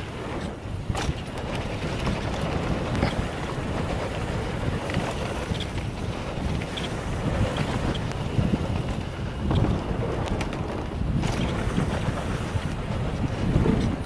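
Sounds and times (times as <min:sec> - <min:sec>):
mountain bike rolling on dirt: 0:00.0 - 0:14.0
wind buffeting microphone: 0:00.0 - 0:14.0
faint clicks and rattles: 0:00.3 - 0:11.6.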